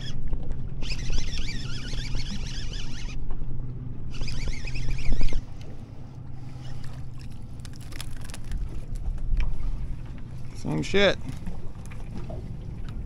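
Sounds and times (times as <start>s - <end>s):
boat engine humming: 0.0s - 13.0s
water noise: 0.0s - 13.0s
wind: 0.0s - 13.0s.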